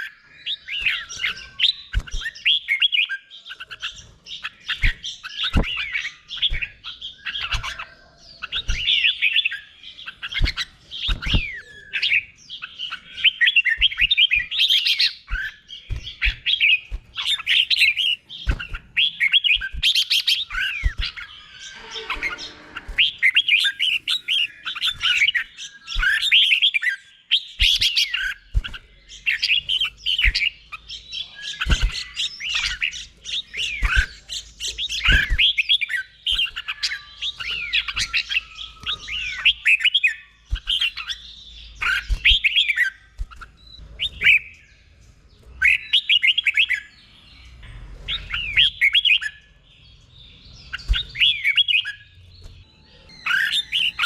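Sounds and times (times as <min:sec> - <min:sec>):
bird warbling song: 0:00.0 - 0:54.0.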